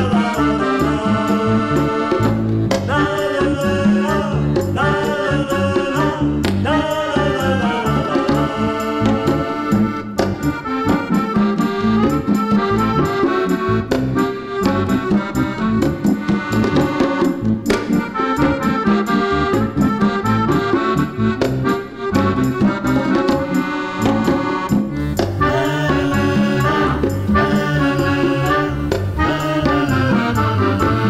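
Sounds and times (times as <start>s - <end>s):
accordion playing tango melody: 0.0s - 31.0s
percussion backing track: 0.0s - 31.0s.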